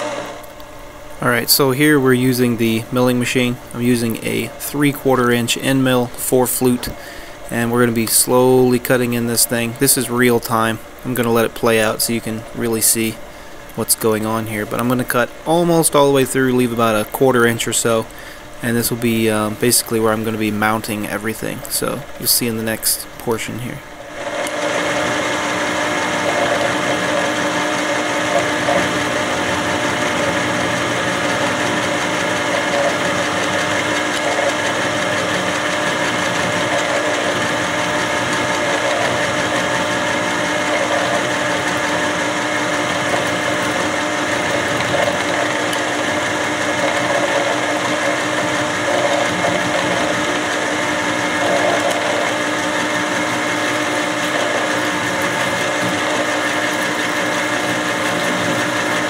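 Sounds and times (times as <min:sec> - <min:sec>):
milling machine drone: 0:00.0 - 0:59.0.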